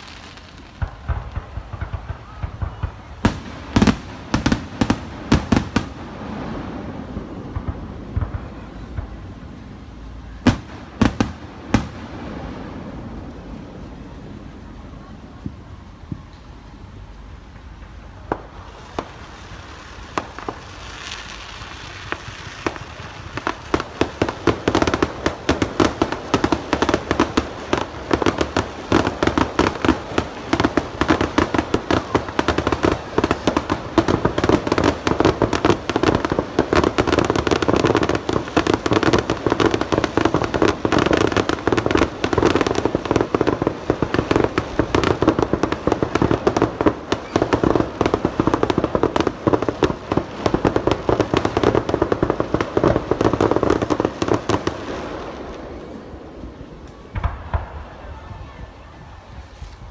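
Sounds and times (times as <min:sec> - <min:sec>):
fireworks barrage: 0:00.0 - 0:59.9.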